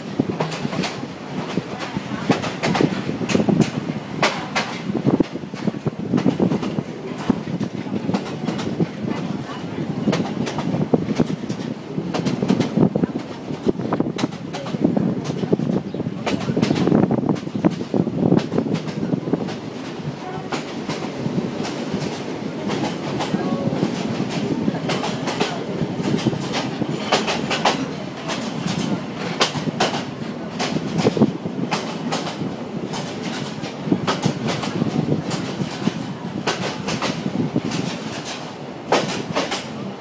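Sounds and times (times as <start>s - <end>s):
train carriage rumble and rattle: 0.0s - 40.0s.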